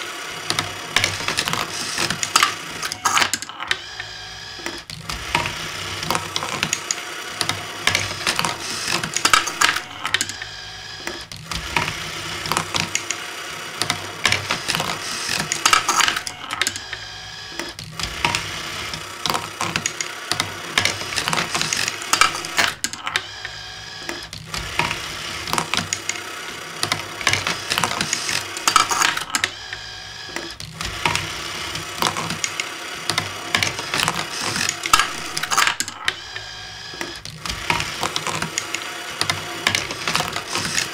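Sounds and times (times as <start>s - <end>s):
small motors whirring: 0.0s - 40.9s
marbles rolling and clicking: 4.6s - 13.2s, 13.8s - 26.2s, 26.8s - 40.9s.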